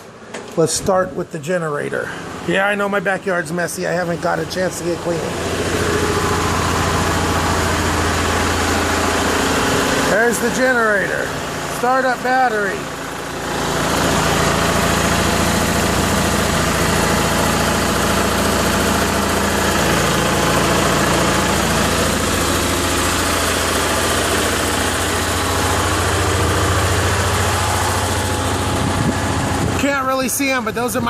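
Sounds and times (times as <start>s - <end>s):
generator engine drone: 0.0s - 31.0s.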